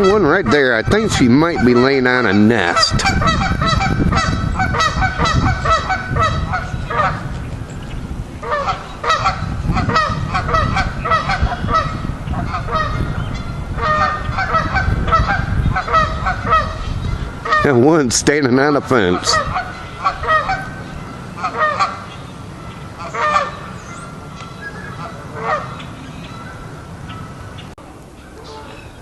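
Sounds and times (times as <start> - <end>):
geese honking: 0.0 - 7.5, 8.4 - 29.0.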